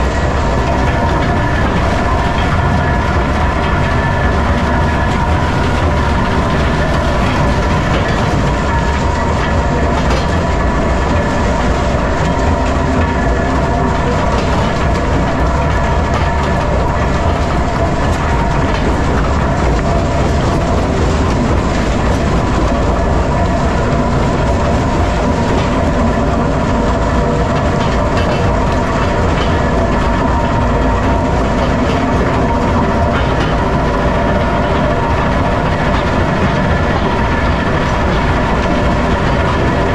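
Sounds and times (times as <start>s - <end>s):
constant hum: 0.0s - 39.9s
rock crusher rumbling: 0.0s - 39.9s.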